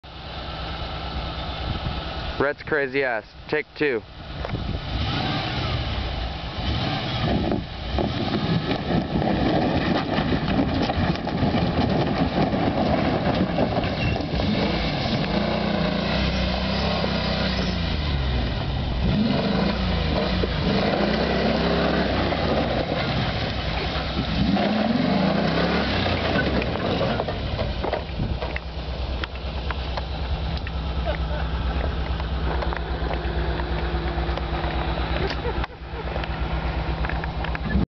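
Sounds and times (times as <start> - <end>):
pickup engine revving: 4.2 - 37.8
tyres crunching on gravel: 7.0 - 37.7.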